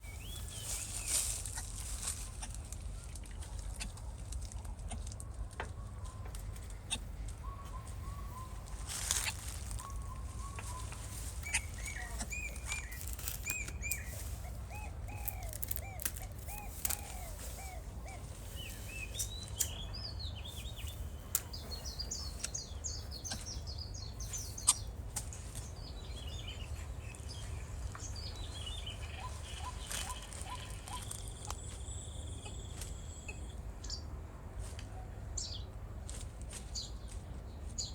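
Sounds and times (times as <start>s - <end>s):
birds chirping: 0.0s - 34.1s.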